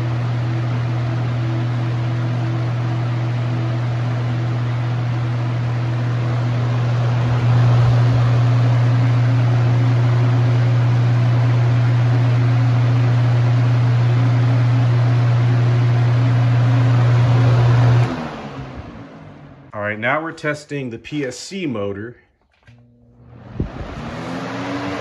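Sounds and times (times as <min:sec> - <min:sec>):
box fan running: 0:00.0 - 0:19.9, 0:22.6 - 0:25.0.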